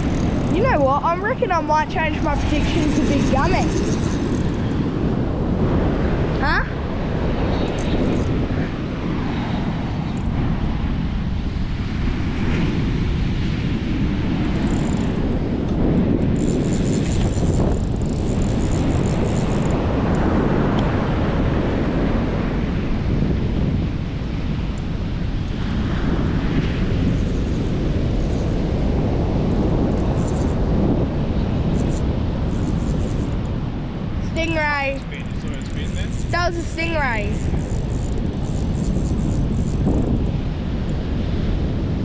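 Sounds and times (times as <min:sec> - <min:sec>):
strong wind buffeting microphone: 0:00.0 - 0:42.0.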